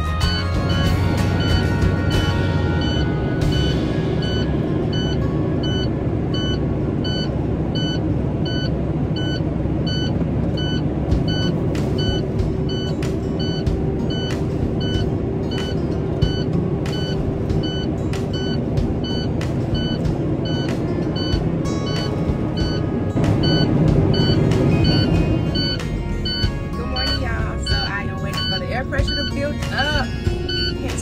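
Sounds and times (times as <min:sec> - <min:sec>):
vehicle engine rumble: 0:00.0 - 0:31.0
short electronic beeps: 0:00.2 - 0:01.8, 0:02.8 - 0:29.5, 0:30.4 - 0:31.0.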